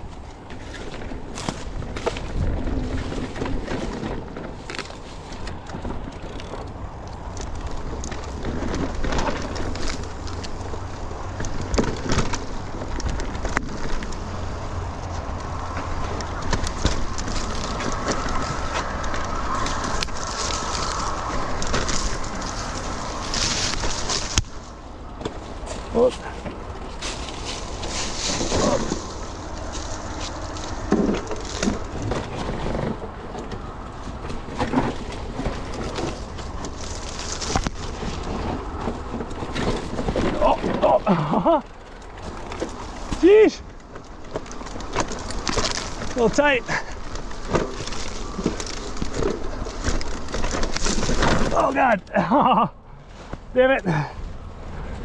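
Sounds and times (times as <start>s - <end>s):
wind rumble on microphone: 0.0s - 51.6s
bike rattling over bumps: 0.0s - 55.0s
bike tyres on dirt: 0.0s - 55.0s.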